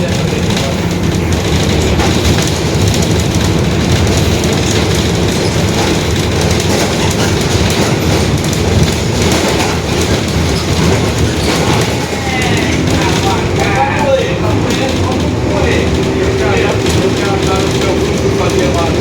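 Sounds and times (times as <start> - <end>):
bus body rattle: 0.0 - 19.0
bus diesel engine running: 0.0 - 19.0
differential droning: 0.0 - 19.0.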